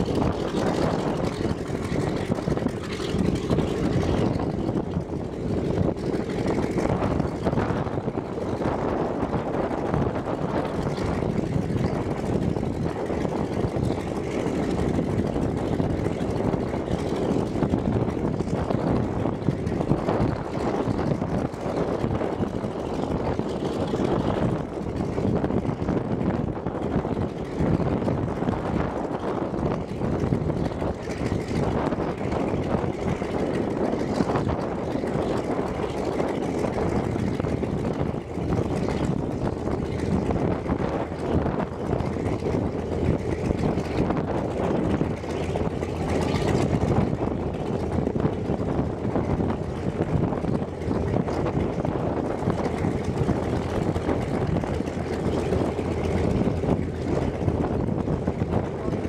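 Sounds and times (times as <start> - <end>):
aircraft engine idling: 0.0 - 59.0.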